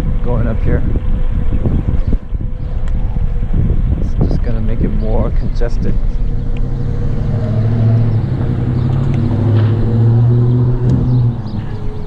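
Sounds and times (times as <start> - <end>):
low motor hum: 0.0 - 12.0
low rumble: 0.0 - 12.0.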